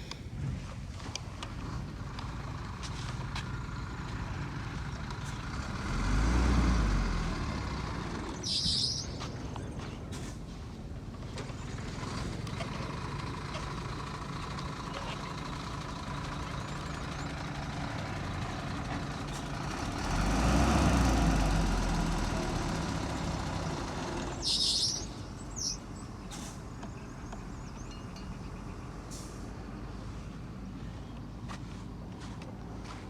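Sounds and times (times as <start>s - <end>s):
heavy diesel engine running: 1.3s - 33.0s.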